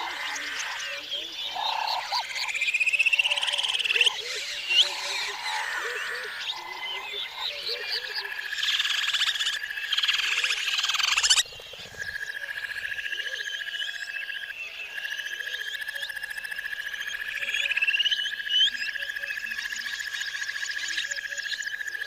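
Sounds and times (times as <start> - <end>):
frog trilling: 0.0 - 22.0
frogs chirping: 0.0 - 22.0.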